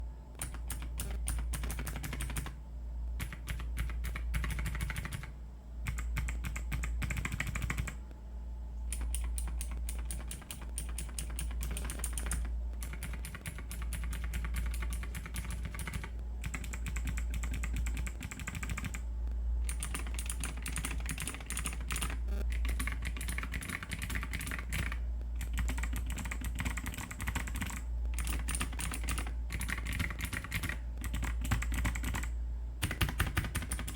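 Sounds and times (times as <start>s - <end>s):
low steady hum: 0.0s - 33.9s
mechanical keyboard typing: 0.4s - 2.6s, 3.2s - 8.0s, 8.9s - 19.0s, 19.6s - 33.9s.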